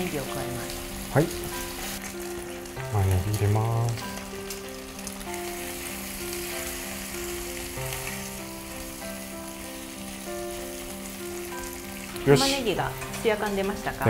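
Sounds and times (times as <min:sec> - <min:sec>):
meat and onion sizzling in a skillet: 0:00.0 - 0:14.0
soft background music: 0:00.0 - 0:14.0.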